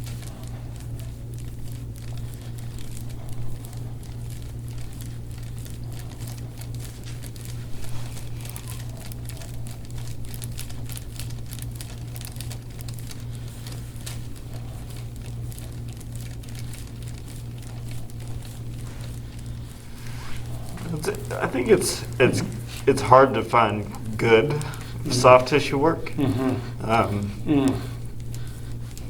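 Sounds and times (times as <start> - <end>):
soft crinkling and rustling: 0.0 - 29.0
steady low hum: 0.0 - 29.0.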